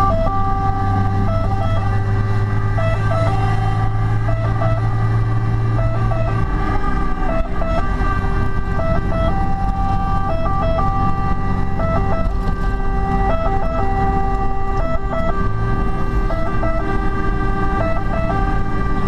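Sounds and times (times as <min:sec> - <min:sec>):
fire engine two-tone siren: 0:00.0 - 0:19.0
truck engine running: 0:00.0 - 0:19.0.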